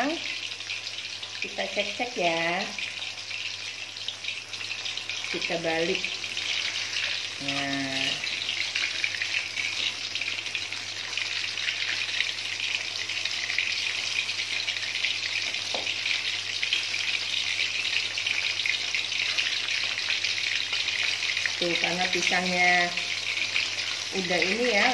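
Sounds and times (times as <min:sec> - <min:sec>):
fritters sizzling in hot oil: 0:00.0 - 0:24.9.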